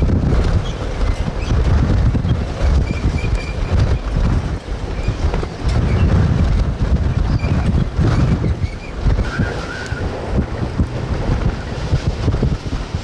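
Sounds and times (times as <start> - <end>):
wind gusting over microphone: 0.0 - 13.0.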